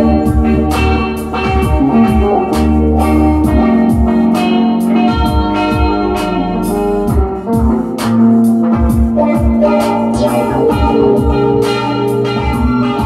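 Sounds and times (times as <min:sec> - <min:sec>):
drum machine beat: 0:00.0 - 0:13.0
electric guitar: 0:00.0 - 0:13.0
keyboard chords: 0:00.0 - 0:13.0
synth bass: 0:00.0 - 0:13.0.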